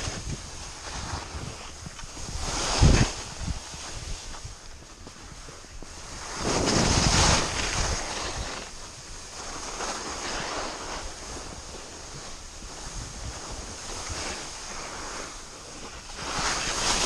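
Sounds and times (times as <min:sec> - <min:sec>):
skis scraping over snow: 0:00.0 - 0:17.0
wind on microphone: 0:00.0 - 0:17.0.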